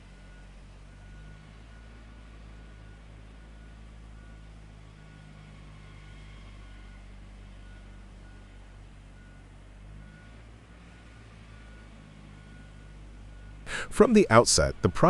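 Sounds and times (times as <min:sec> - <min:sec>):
heavy machinery engine rumbling: 0:00.0 - 0:15.0.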